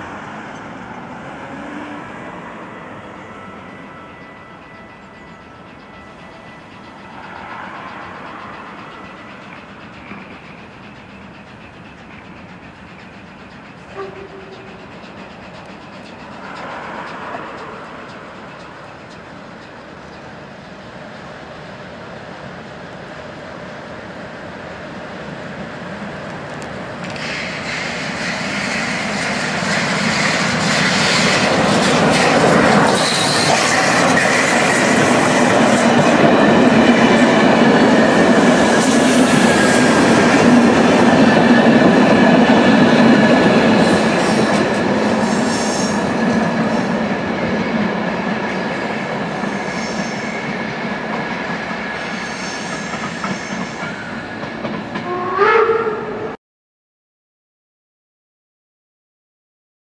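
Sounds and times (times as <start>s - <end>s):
train wheels clattering and squealing: 0.0s - 56.1s.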